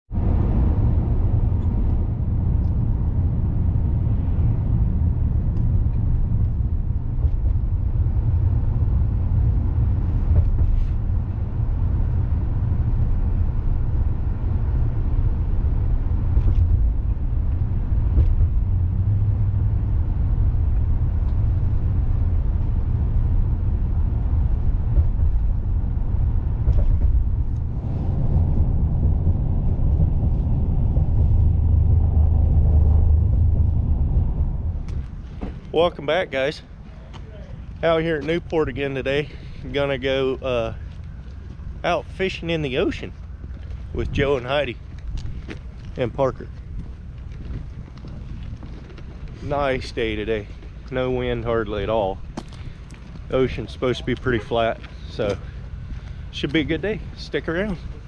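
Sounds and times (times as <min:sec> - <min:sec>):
heavy low rumble: 0:00.0 - 0:58.0.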